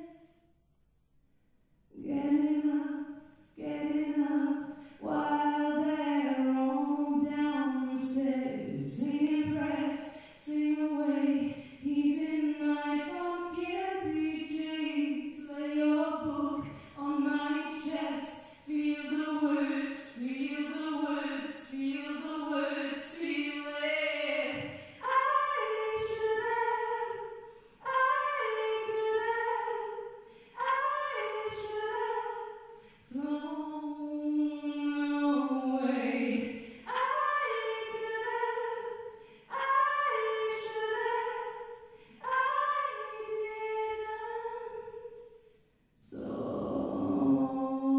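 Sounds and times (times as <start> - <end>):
woman singing into a microphone: 2.0 - 45.1, 46.0 - 47.9.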